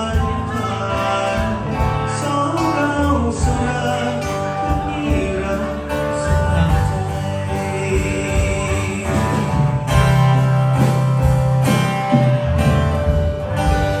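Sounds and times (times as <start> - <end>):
guitar: 0.0 - 14.0
steady bass line: 0.0 - 14.0.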